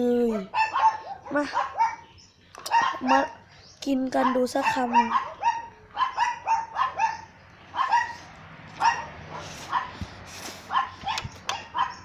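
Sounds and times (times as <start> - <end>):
dog yapping: 0.3 - 3.4, 4.2 - 10.0, 10.7 - 12.0.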